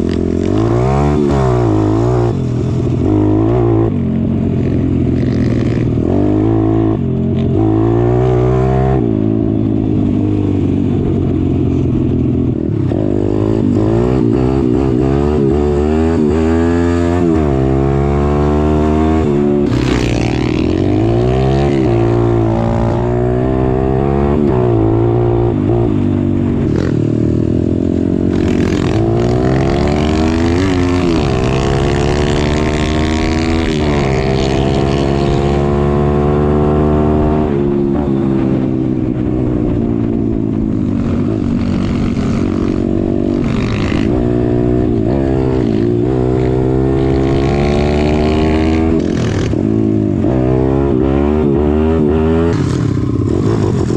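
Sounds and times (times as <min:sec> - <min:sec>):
pit bike engine revving: 0:00.0 - 0:53.9.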